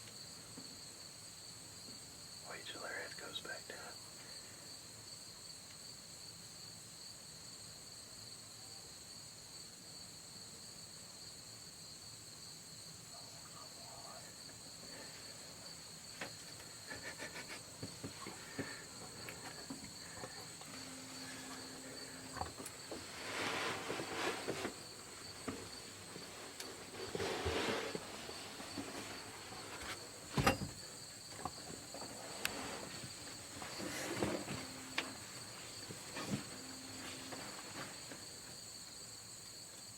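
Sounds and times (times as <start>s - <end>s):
insects trilling: 0.1s - 39.9s.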